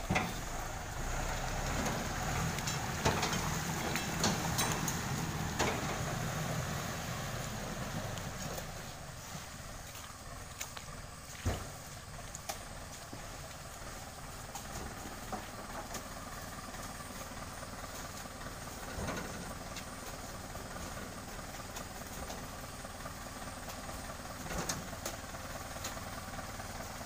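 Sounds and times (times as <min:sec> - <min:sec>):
tractor engine idling: 0:00.0 - 0:27.0.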